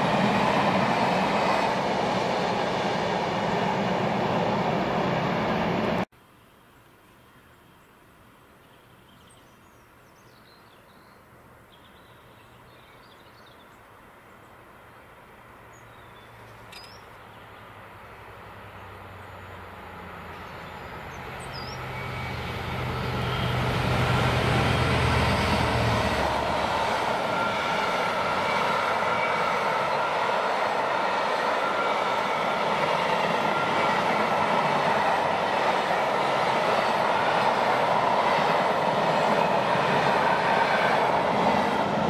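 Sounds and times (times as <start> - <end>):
diesel locomotive passing: 0.0 - 6.1, 14.1 - 42.0.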